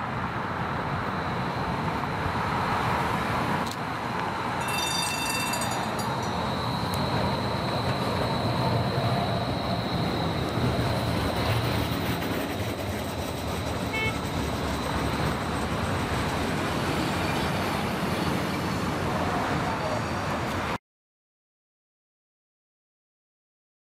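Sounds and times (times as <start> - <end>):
cars driving by: 0.0 - 20.8
streetcar rolling past: 0.0 - 20.8.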